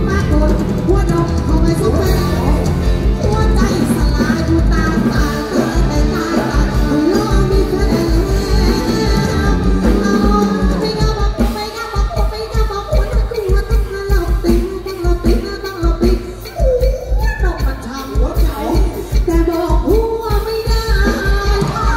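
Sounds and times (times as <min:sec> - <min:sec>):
live band playing: 0:00.0 - 0:21.9
woman singing: 0:00.0 - 0:21.9.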